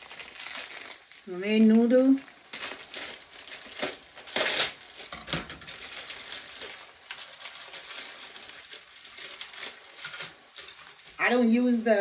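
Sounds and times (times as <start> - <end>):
dry noodles crunching: 0.0 - 11.2
plastic wrapper crinkling: 0.0 - 11.6.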